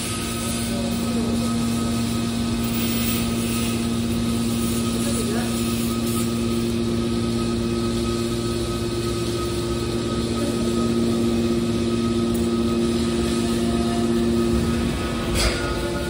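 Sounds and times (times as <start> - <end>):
electric motor humming: 0.0 - 16.0.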